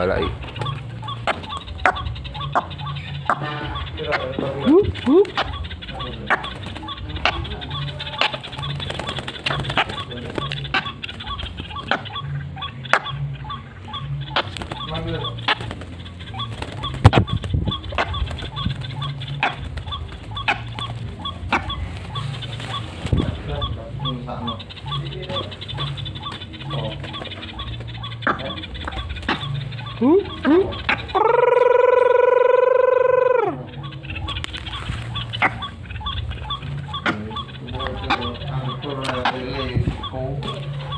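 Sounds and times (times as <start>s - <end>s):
birds calling high notes: 0.0s - 40.9s
low pulsing hoots: 0.0s - 40.9s.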